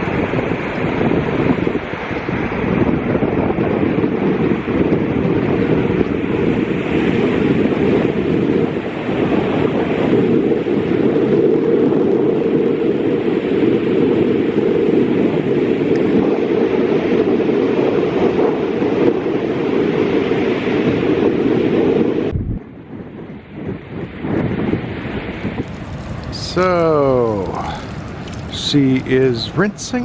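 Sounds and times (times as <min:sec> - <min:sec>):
ocean surf: 0:00.0 - 0:30.0
wind buffeting microphone: 0:00.0 - 0:30.0.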